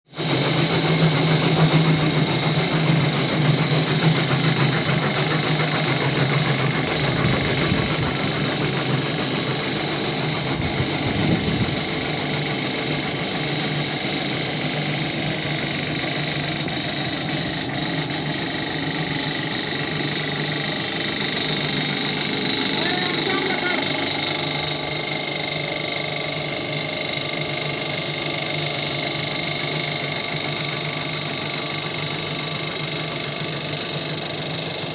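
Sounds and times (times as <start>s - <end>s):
motor-driven machine running: 0.1s - 34.9s.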